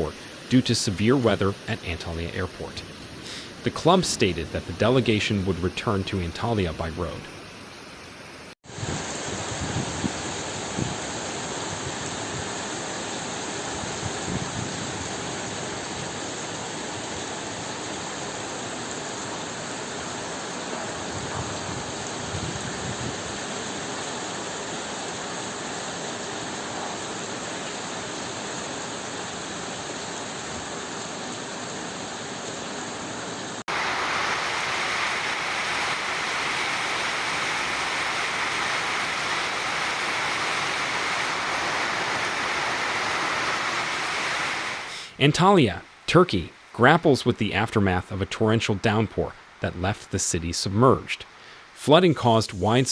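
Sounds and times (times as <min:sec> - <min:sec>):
rushing flood water: 0:00.0 - 0:52.9.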